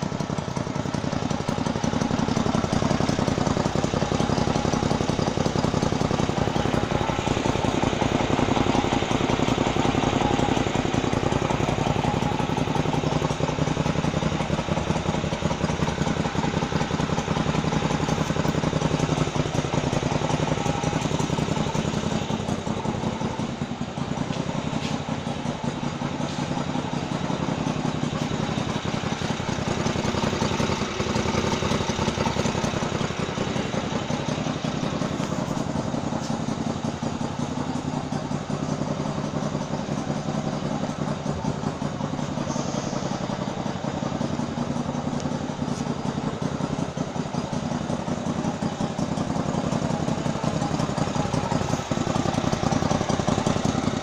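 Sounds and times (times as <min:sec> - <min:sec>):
airboat engine running: 0:01.4 - 0:54.0.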